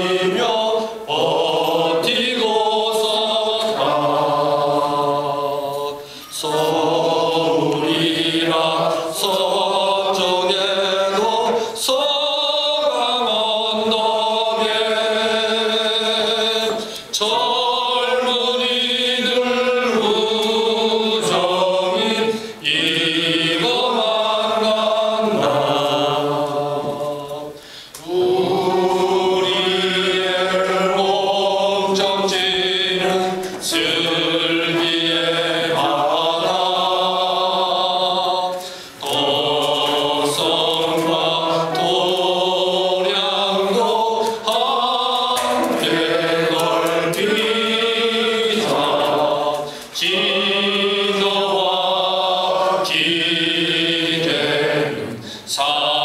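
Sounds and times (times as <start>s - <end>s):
group of people singing: 0.0s - 56.0s.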